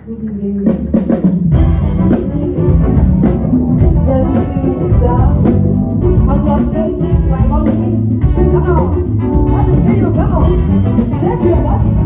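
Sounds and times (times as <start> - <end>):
live band playing gospel dance music: 0.7 - 12.0.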